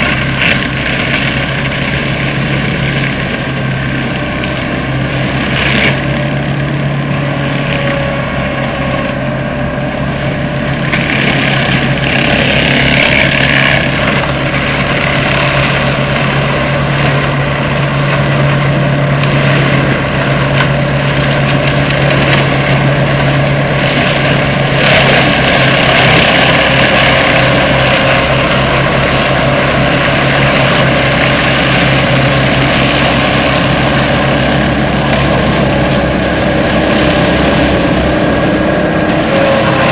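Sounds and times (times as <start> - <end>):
diesel engine running: 0.0 - 39.9
mulcher shredding: 0.0 - 39.9.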